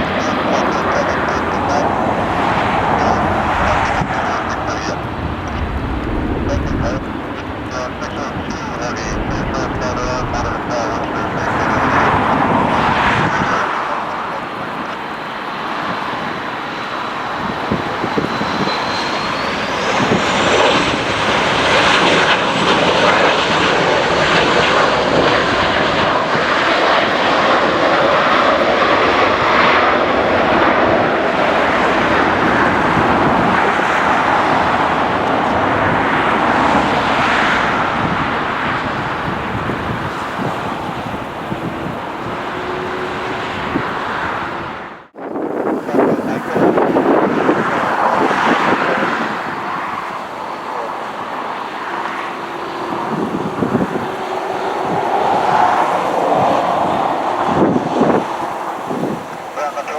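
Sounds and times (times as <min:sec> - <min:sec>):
high jet whine: 0:00.0 - 0:59.9
jet airliner engines rushing: 0:00.0 - 0:59.9.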